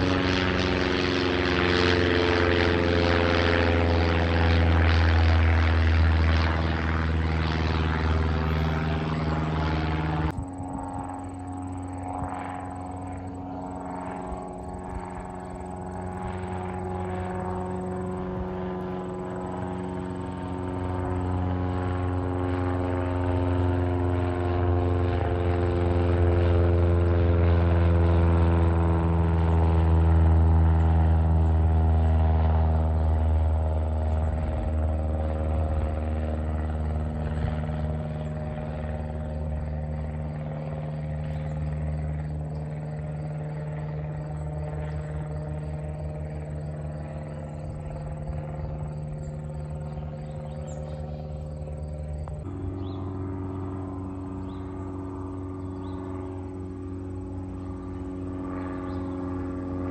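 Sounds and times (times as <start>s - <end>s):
light aircraft propeller drone: 0.0s - 59.9s.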